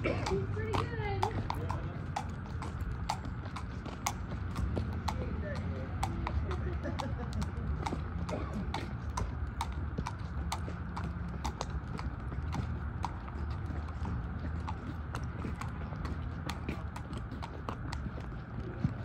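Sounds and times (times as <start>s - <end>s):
horse hooves clip-clopping: 0.0s - 19.0s
low steady rumble: 0.0s - 19.0s.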